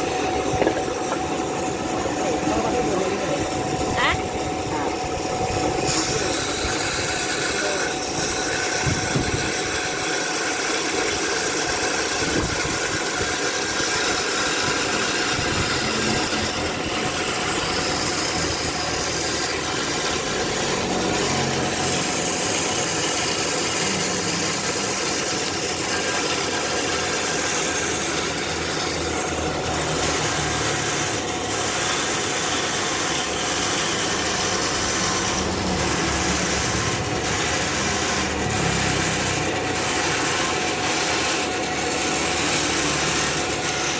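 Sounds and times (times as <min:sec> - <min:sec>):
hand saw sawing through log: 0:00.0 - 0:43.9.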